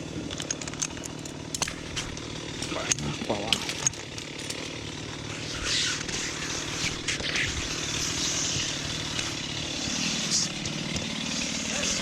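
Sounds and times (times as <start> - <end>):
chainsaw engine running: 0.0 - 12.0.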